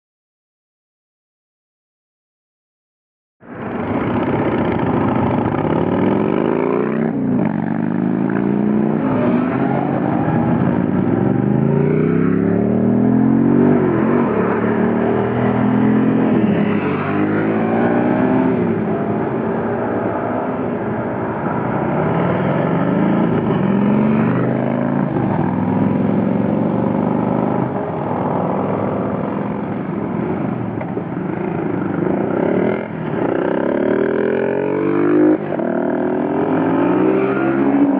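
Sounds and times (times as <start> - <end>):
motorcycles accelerating: 3.6 - 37.9.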